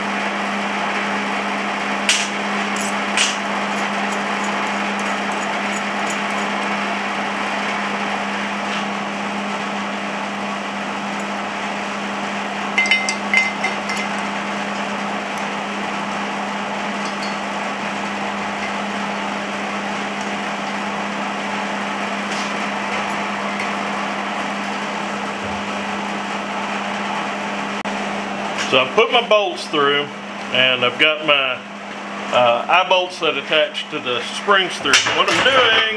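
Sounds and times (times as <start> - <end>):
steady background hum: 0.0 - 35.9.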